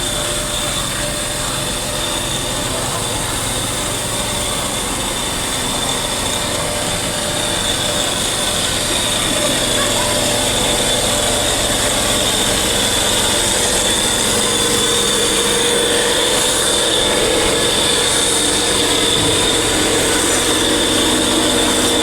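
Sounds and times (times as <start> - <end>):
machine running with whine: 0.0 - 22.0.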